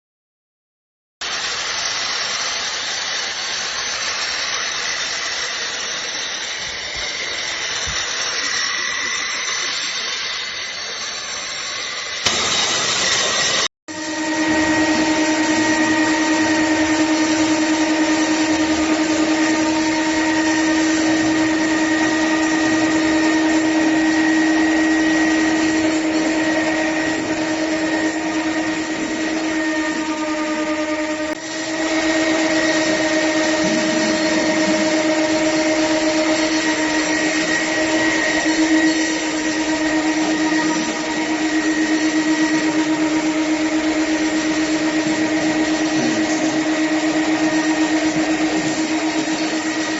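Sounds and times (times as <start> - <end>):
floor grinder running: 1.2 - 49.9.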